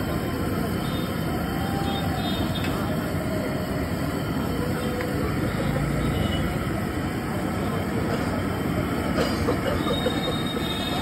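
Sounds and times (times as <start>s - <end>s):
gas burner roaring: 0.0s - 11.0s.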